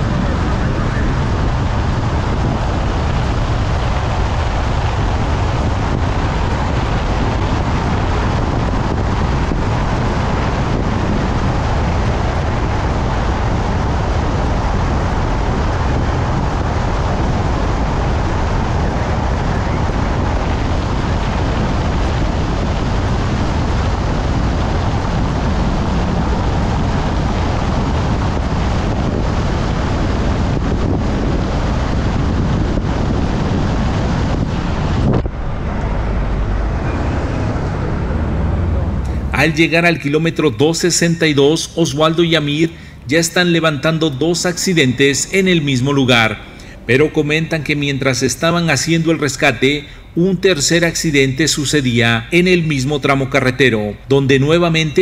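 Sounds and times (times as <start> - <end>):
vehicle road noise: 0.0 - 55.0
wind buffeting microphone: 0.0 - 55.0.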